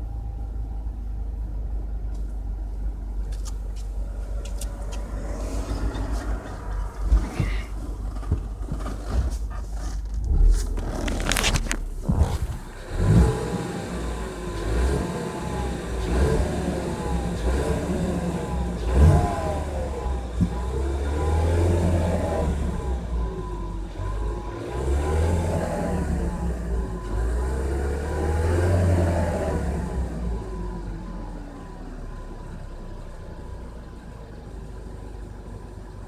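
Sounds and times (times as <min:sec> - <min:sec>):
car engine and road drone: 0:00.0 - 0:36.0
engine whine: 0:00.0 - 0:36.0.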